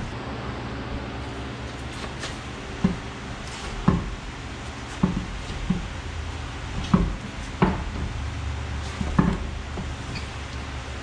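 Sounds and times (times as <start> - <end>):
wheel clunking against hub: 1.8 - 11.0.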